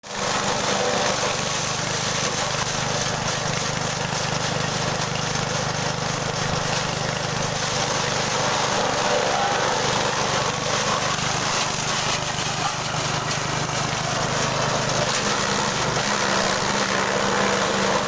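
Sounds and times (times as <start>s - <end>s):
chopping machine engine running: 0.0s - 18.0s.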